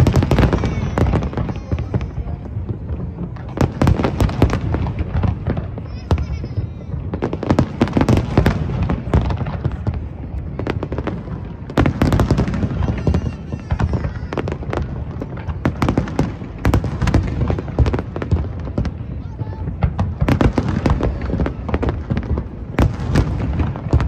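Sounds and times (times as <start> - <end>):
fireworks booms and cracking bursts: 0.0 - 24.0.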